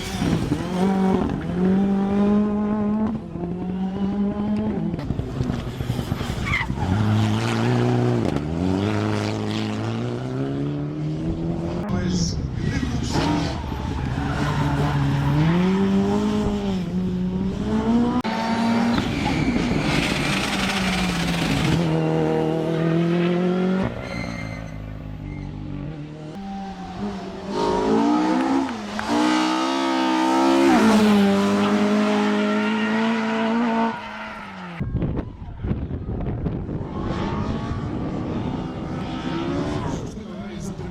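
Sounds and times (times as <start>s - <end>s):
rally car engines revving: 0.0s - 34.8s, 35.7s - 40.9s.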